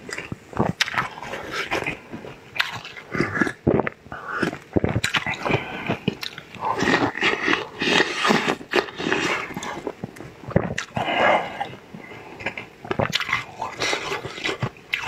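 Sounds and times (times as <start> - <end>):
moist mouth noises: 0.0 - 15.0
person chewing pastry: 0.0 - 15.0.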